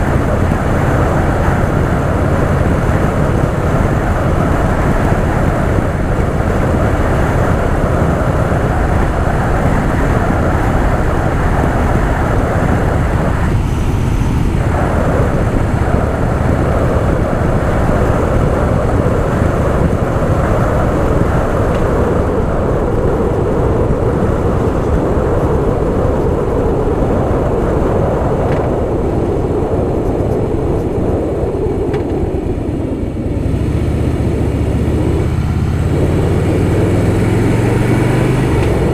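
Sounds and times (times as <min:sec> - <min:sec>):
motorcycle engine running: 0:00.0 - 0:26.2, 0:31.9 - 0:38.9
road and wind noise: 0:00.0 - 0:38.9.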